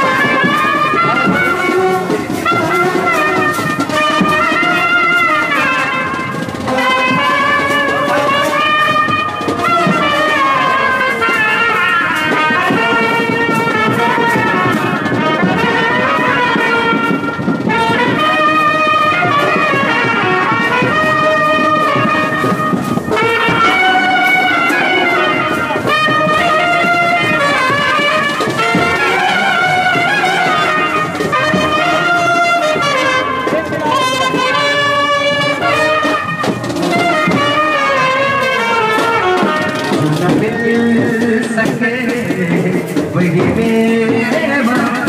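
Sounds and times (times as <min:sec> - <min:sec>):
brass band music: 0:00.0 - 0:45.0
trumpet melody: 0:00.0 - 0:45.0.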